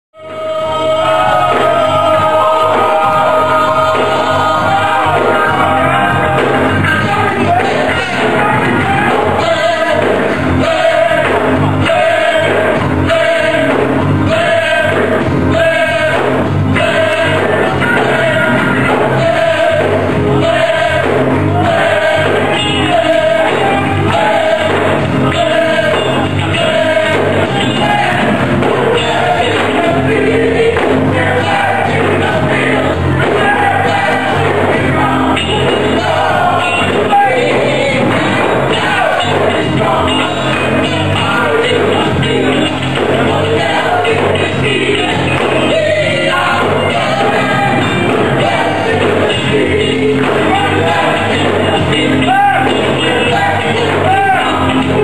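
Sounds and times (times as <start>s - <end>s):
church band playing: 0.2s - 55.0s
voices singing: 0.2s - 55.0s.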